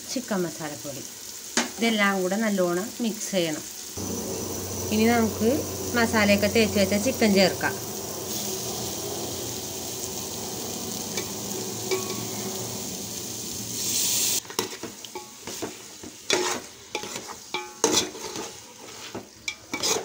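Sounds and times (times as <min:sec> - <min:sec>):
chicken frying sizzle: 0:00.0 - 0:20.0.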